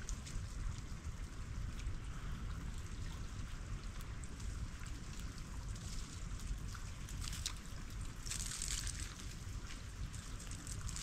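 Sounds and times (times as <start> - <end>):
meltwater trickling and dripping: 0.0 - 11.0
steady low rumble: 0.0 - 11.0.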